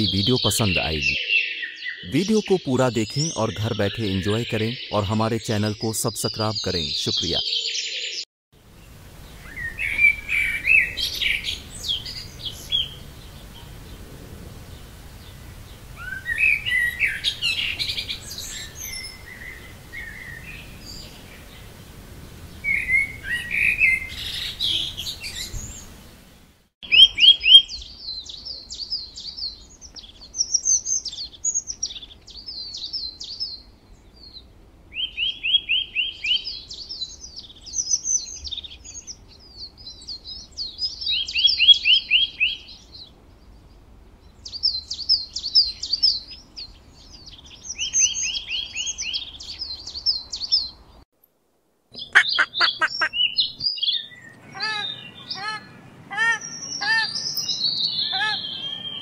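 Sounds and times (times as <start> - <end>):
bird song with fast trill: 0.0 - 8.3, 9.2 - 14.0, 14.7 - 21.7, 26.8 - 51.0, 52.0 - 59.0
songbirds chirping: 0.0 - 51.0, 51.9 - 59.0.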